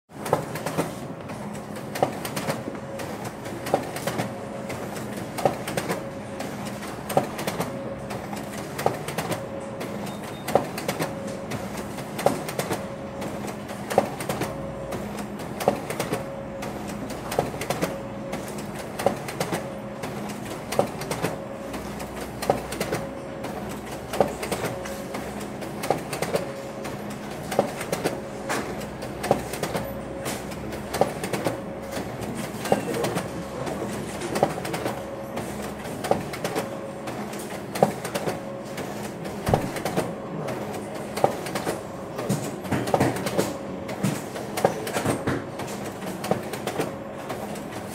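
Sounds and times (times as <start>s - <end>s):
photocopier humming: 0.1s - 47.9s
photocopier clacking: 0.2s - 47.9s.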